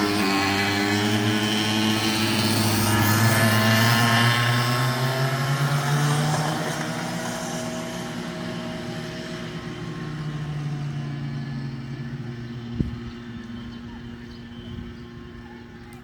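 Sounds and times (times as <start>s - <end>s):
go-kart engine droning: 0.0s - 16.0s.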